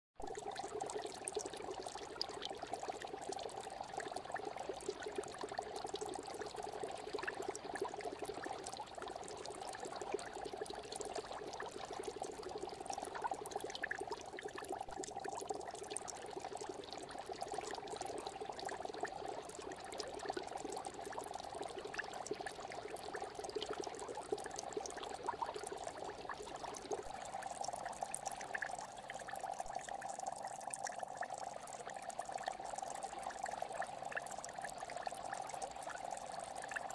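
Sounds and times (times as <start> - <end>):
aquarium water bubbling: 0.2 - 36.9.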